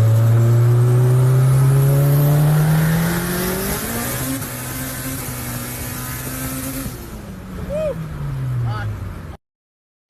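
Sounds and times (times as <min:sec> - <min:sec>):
turbocharged car engine accelerating: 0:00.0 - 0:08.6.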